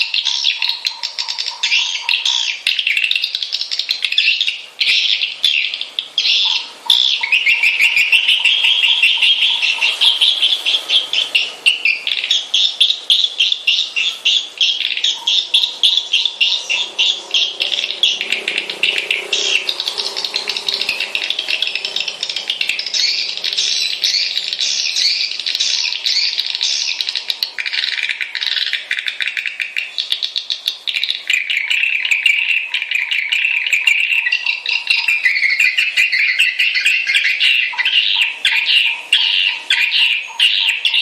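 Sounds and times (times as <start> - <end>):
swiftlet chattering trill: 0.0 - 41.0.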